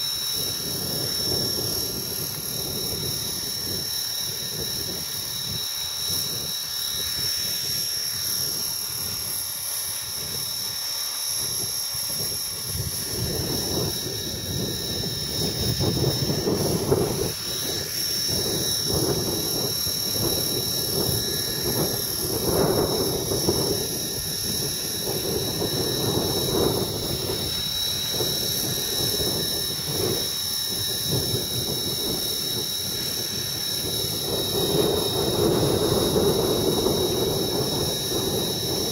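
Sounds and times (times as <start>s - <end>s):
rc helicopter whine: 0.0s - 38.9s
wind buffeting microphone: 0.0s - 38.9s.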